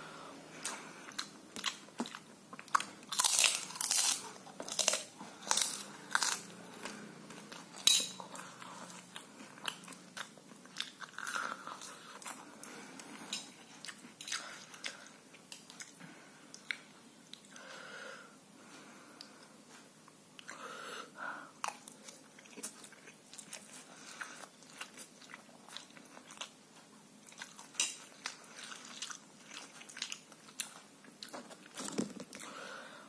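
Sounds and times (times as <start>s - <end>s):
chewing crunchy food: 0.6s - 17.6s, 21.6s - 32.6s.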